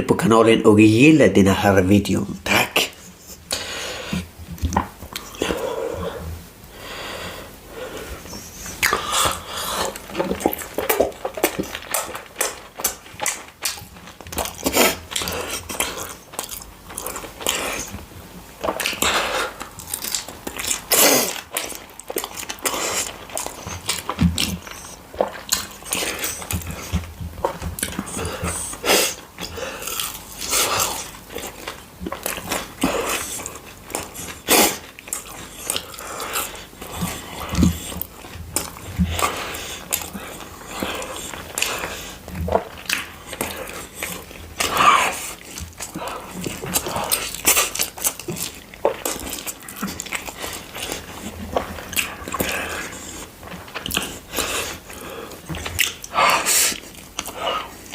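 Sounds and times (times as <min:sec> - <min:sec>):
person chewing and crunching: 0:02.5 - 0:57.9.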